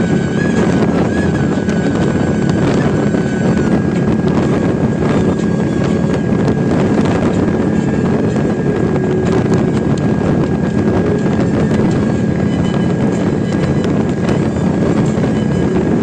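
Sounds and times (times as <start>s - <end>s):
motorcycle engine cruising: 0.0s - 16.0s
wind rushing over microphone: 0.0s - 16.0s.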